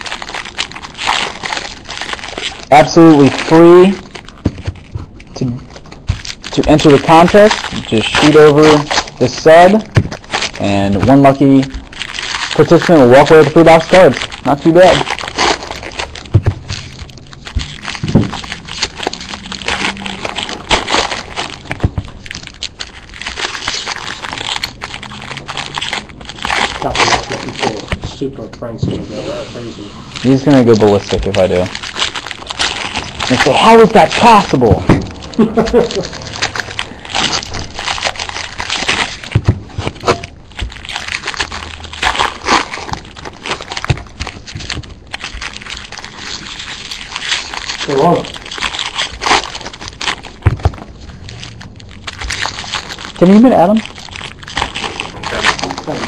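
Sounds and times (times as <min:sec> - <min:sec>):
foil wrappers crinkling: 0:00.0 - 0:56.0.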